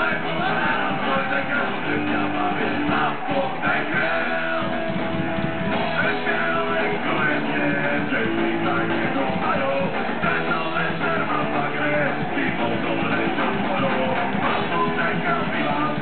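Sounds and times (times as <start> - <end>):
bass guitar: 0.0 - 16.0
distorted electric guitars: 0.0 - 16.0
drums: 0.0 - 16.0
singer's vocals: 0.0 - 16.0.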